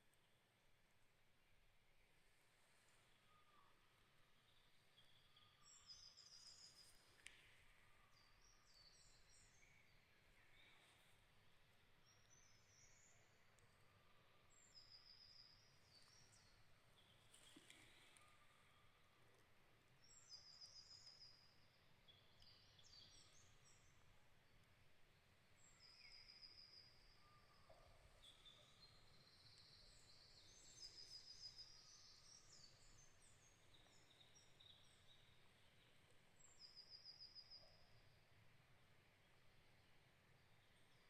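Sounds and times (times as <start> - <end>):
soft outdoor hiss: 0.0 - 41.0.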